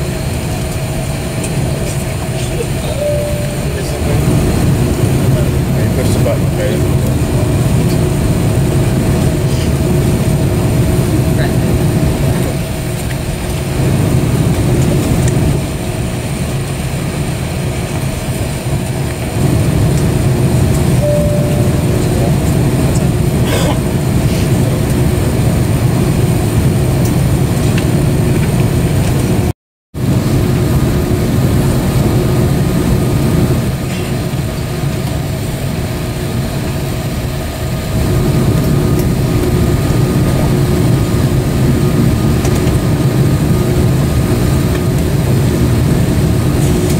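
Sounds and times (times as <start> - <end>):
cabin ventilation drone: 0.0 - 46.9.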